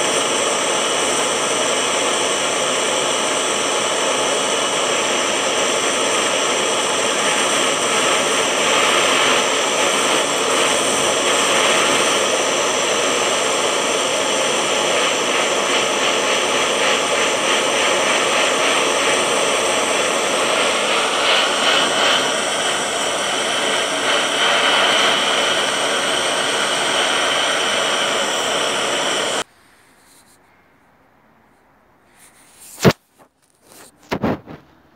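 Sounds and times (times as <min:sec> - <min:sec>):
gas torch flame rushing: 0:00.0 - 0:29.5.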